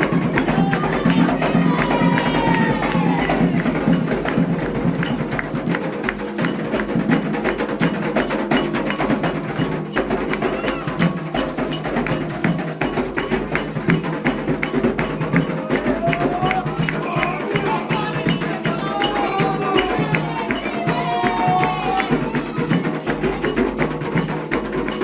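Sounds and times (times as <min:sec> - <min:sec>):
hand drums: 0:00.0 - 0:25.0
struck bell: 0:00.0 - 0:25.0.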